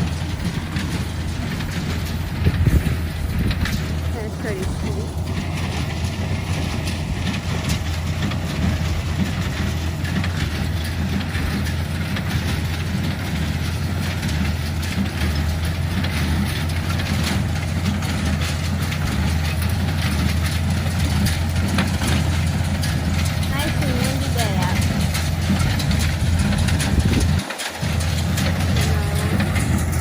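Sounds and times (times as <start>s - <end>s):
baler rattling clatter: 0.0s - 30.0s
tractor engine running: 0.0s - 30.0s.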